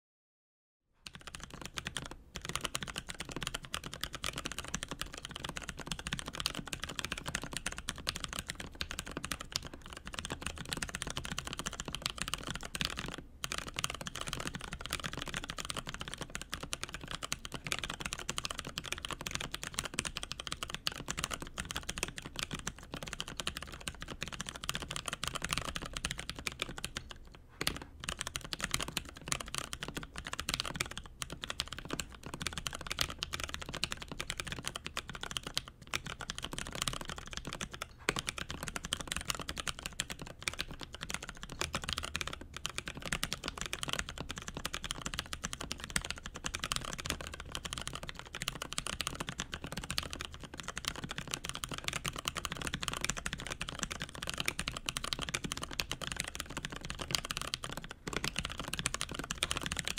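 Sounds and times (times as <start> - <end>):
mechanical keyboard typing: 1.0 - 59.9.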